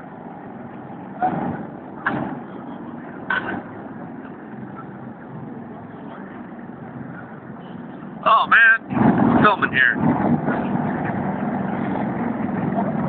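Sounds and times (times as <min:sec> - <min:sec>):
steady engine drone: 0:00.0 - 0:13.0.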